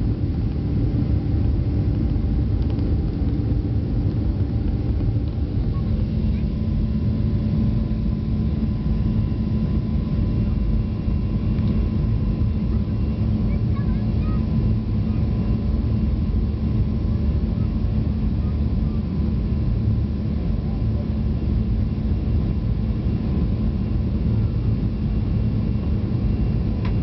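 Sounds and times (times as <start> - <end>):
constant low hum: 0.0 - 27.0
jet engine cabin drone: 0.0 - 27.0.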